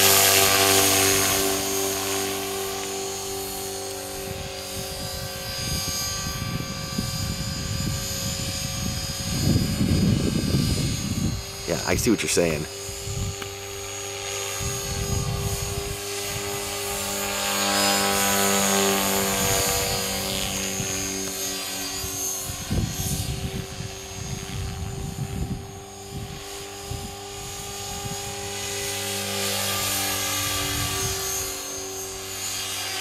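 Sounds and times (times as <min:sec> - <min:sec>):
rc helicopter motor whine: 0:00.0 - 0:33.0.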